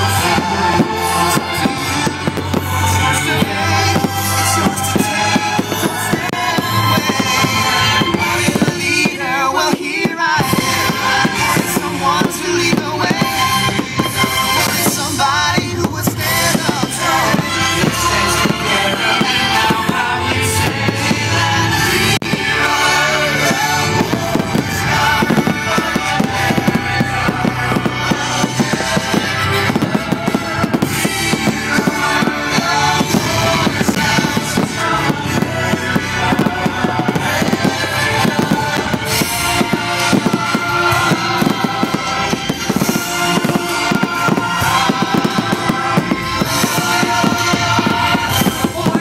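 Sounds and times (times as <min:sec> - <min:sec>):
fireworks shells bursting: 0:00.0 - 0:49.0
loud music: 0:00.0 - 0:49.0.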